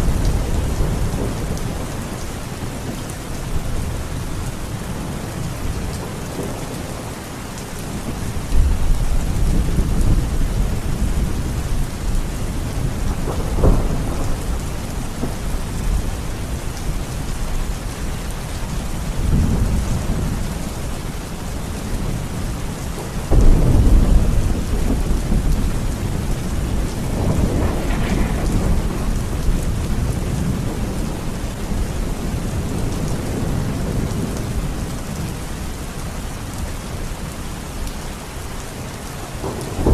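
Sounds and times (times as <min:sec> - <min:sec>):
thunder rumbling: 0:00.0 - 0:07.2, 0:07.8 - 0:35.8, 0:39.2 - 0:39.9
steady rain: 0:00.0 - 0:39.9.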